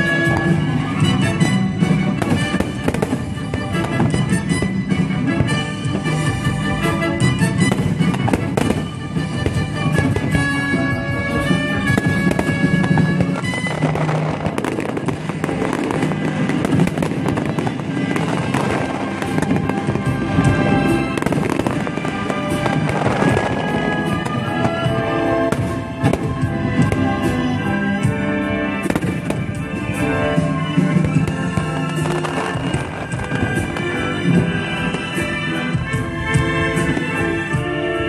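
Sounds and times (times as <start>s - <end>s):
music with held notes: 0.0s - 38.0s.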